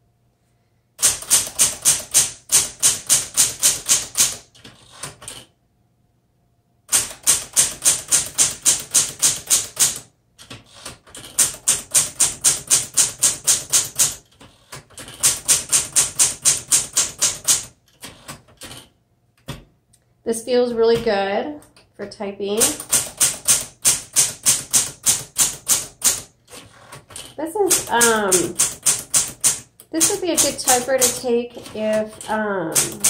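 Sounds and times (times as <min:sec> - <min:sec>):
manual typewriter clacking: 0:01.0 - 0:05.5, 0:06.9 - 0:19.6, 0:22.6 - 0:33.0.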